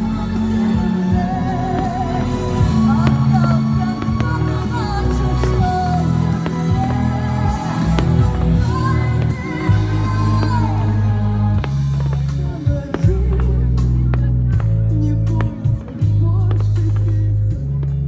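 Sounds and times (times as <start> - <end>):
sung melody: 0.0 - 18.0
sustained bass notes: 0.0 - 18.0.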